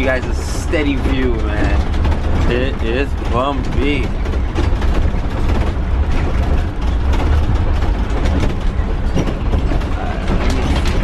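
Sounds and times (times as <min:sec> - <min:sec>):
body rattling and clicking: 0:00.0 - 0:11.0
bus engine and road rumble: 0:00.0 - 0:11.0.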